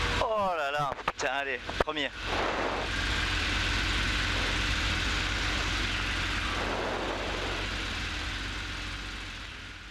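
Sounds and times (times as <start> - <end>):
aircraft engine and propeller: 0.8 - 9.9.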